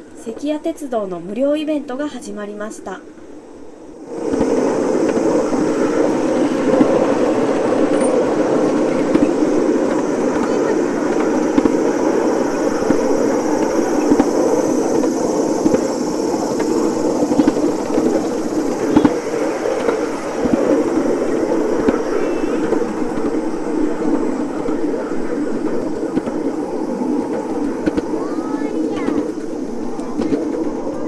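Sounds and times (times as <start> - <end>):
miniature train rumble: 0.0 - 31.0.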